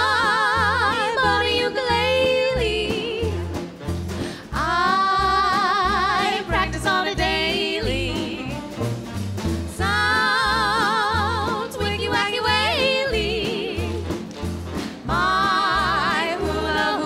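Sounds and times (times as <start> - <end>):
bass beat: 0.0 - 17.0
dance band instrumental: 0.0 - 17.0
sliding lead melody with vibrato: 0.0 - 17.0.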